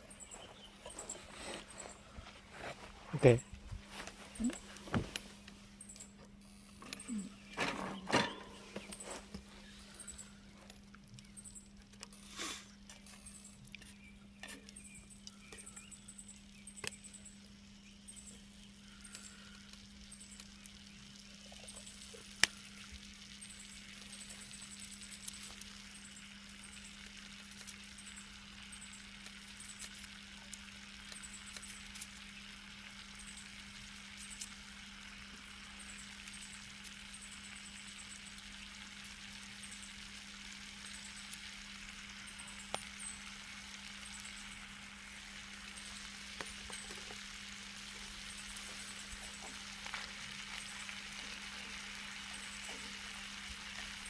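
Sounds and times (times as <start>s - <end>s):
food sizzling on a grill: 0.0s - 5.8s, 6.4s - 54.0s.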